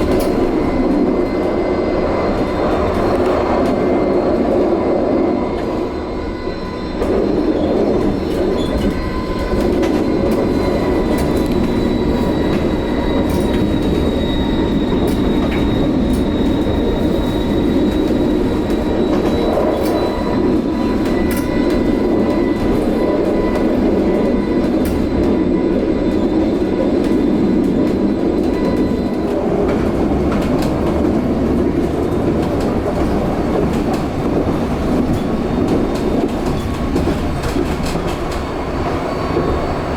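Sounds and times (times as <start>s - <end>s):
tram rolling rumble: 0.0s - 39.9s.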